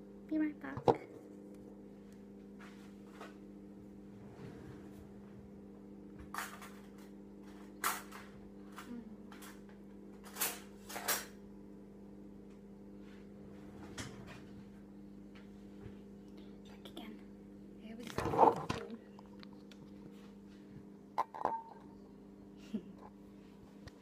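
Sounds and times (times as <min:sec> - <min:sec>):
fridge-freezer humming: 0:00.0 - 0:24.0.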